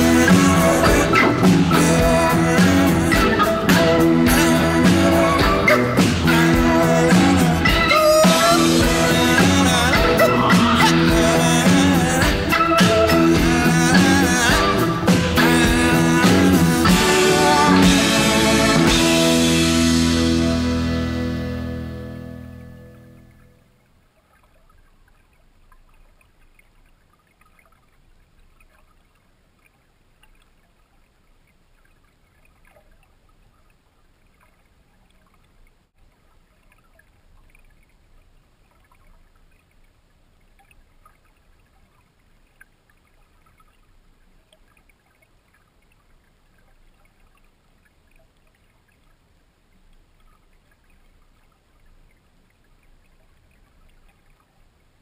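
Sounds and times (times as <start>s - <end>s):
underwater creek rush: 0.0s - 55.0s.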